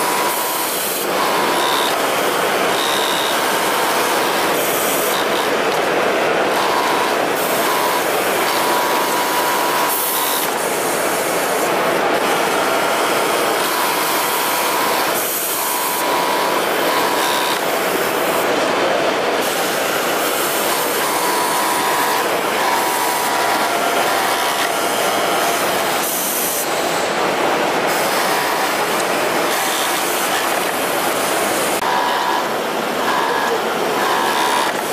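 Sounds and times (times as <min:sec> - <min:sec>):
sewing machine motor whine: 0:00.0 - 0:34.9.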